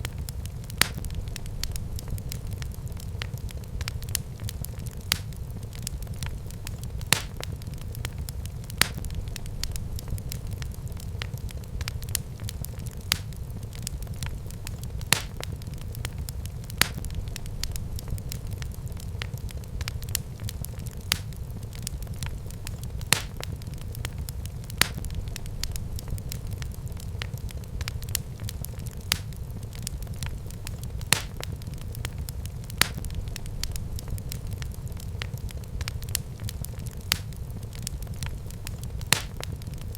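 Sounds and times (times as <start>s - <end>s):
fire crackling pops: 0.0s - 39.9s
low rumble of flames: 0.0s - 39.9s.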